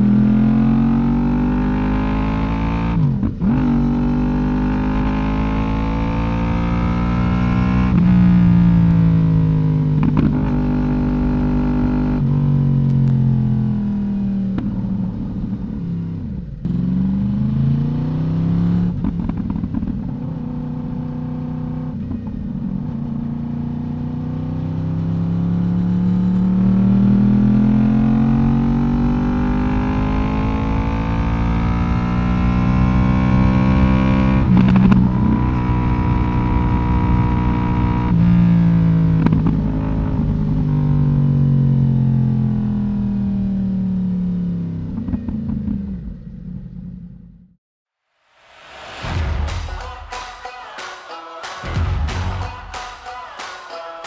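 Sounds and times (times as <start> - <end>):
motorcycle engine revving: 0.0 - 43.3.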